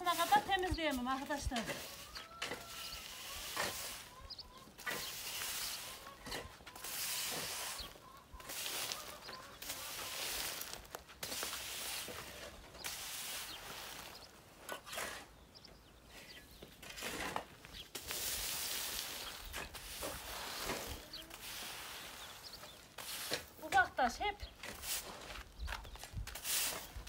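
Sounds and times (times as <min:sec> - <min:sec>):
broom sweeping dirt ground: 0:00.0 - 0:15.3, 0:16.2 - 0:27.0.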